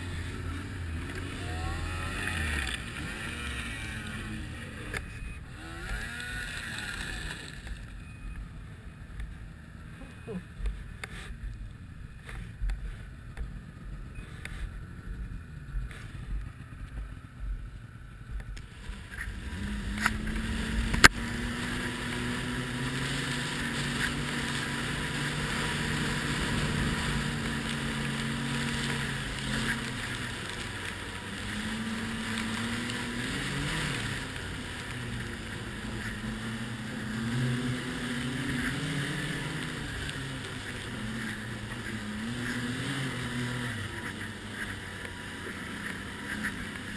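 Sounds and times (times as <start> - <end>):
snowmobile engine: 0.0 - 46.9.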